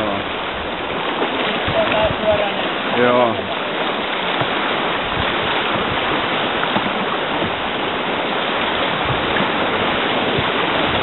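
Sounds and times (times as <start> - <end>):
paddle strokes splashing: 0.0 - 11.0
river rapids rushing: 0.0 - 11.0.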